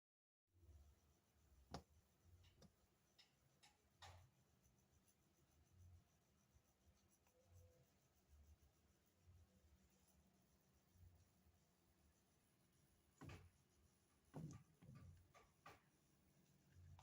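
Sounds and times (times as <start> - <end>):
faint scratching clicks: 1.7 - 17.0.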